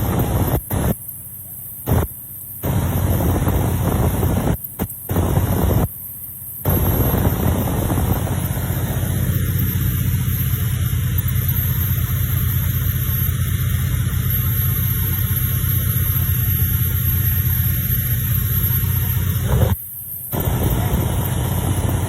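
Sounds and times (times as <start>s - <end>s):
motorboat running at speed: 0.0s - 22.0s.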